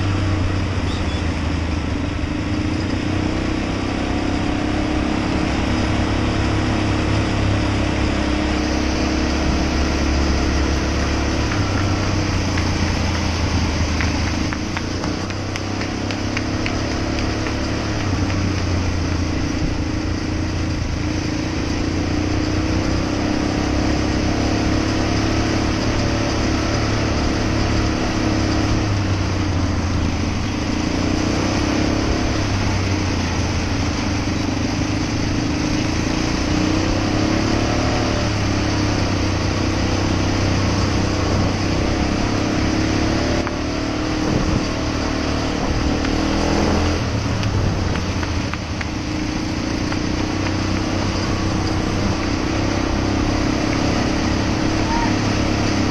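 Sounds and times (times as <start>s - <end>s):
atv engine running: 0.0s - 55.9s
road and wind noise: 0.0s - 55.9s.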